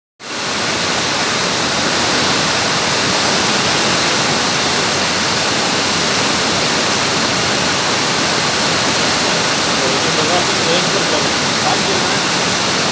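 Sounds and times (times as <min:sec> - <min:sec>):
heavy rain falling: 0:00.3 - 0:12.9.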